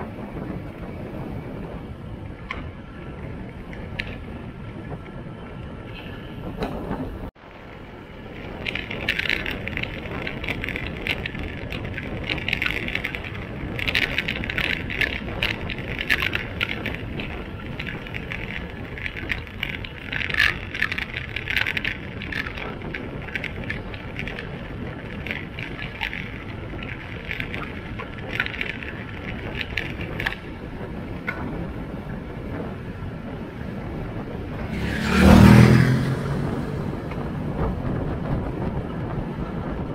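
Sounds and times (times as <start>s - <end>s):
motorcycle engine rumble: 0.0s - 39.9s
wind on microphone: 0.0s - 39.9s
crackling rasping noise: 3.5s - 39.9s.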